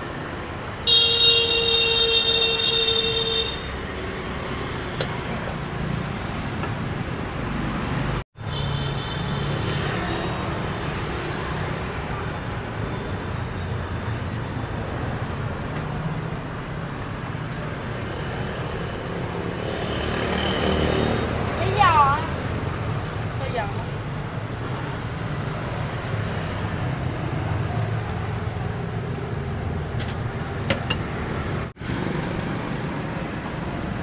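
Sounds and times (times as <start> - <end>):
street traffic noise: 0.0 - 34.0.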